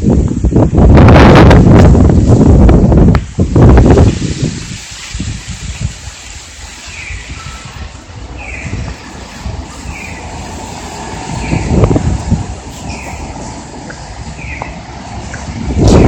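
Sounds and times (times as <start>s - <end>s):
rain and wind hiss: 0.0s - 16.0s
strong wind gusting on microphone: 0.0s - 16.0s.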